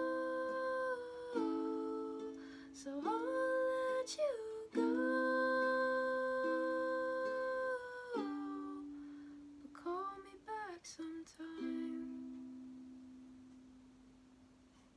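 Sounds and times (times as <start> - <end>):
ukulele playing: 0.0 - 10.3, 11.4 - 13.9
person singing softly: 0.0 - 12.9.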